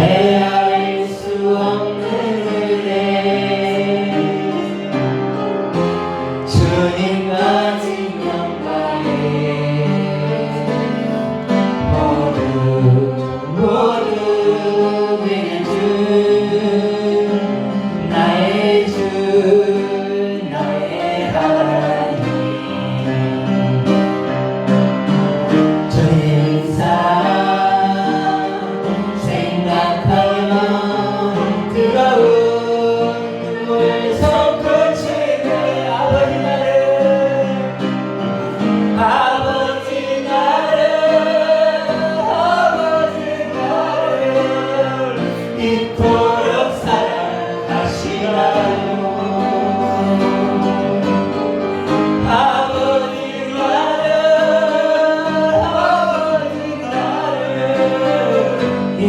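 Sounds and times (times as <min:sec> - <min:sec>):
choir singing worship song: 0:00.0 - 0:59.0
instrumental accompaniment: 0:00.0 - 0:59.0.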